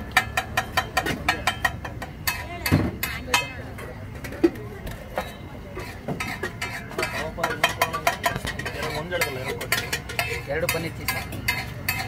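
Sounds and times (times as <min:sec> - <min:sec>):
metal spatula scraping on griddle: 0:00.1 - 0:04.4, 0:05.2 - 0:12.0.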